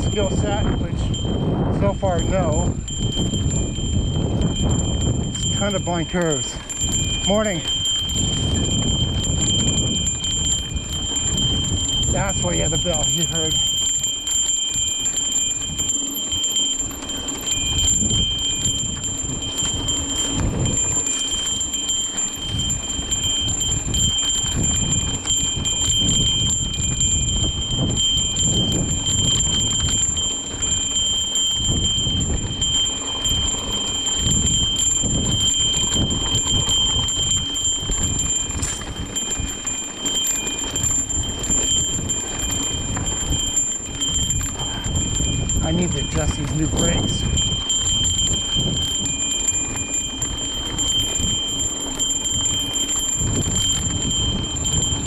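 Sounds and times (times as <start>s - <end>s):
bike bell jingling: 0.0s - 55.0s
bike rolling on dirt rumble: 2.4s - 55.0s.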